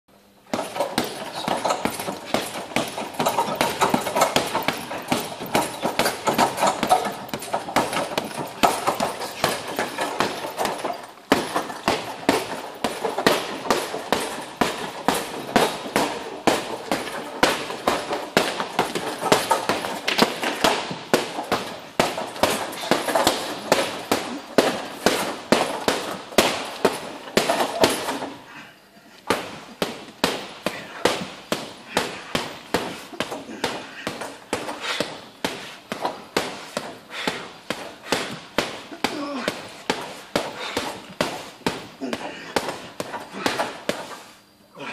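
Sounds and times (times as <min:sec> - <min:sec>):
gloves punching heavy bag: 0:00.5 - 0:28.4, 0:29.2 - 0:44.9.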